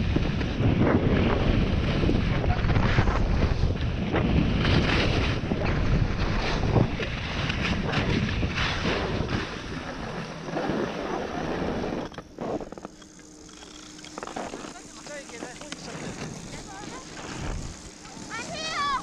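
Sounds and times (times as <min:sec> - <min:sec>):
wind on microphone: 0:00.0 - 0:12.7, 0:14.3 - 0:19.0
skis scraping over snow: 0:00.0 - 0:19.0.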